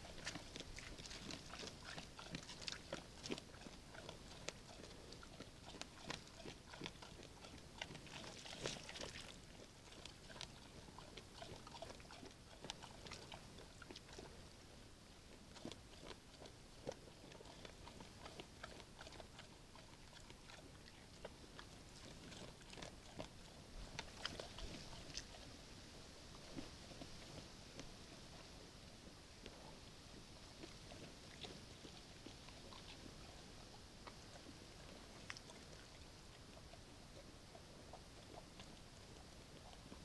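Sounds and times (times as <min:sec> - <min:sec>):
bear chewing with crunches: 0:00.0 - 0:40.0.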